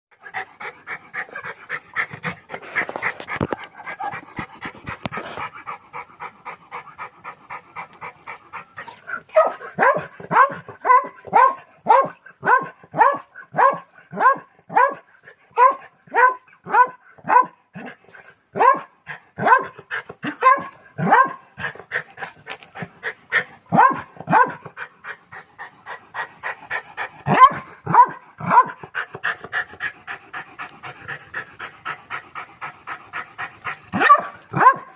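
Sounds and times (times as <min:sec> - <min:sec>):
dog panting: 0:00.1 - 0:34.9.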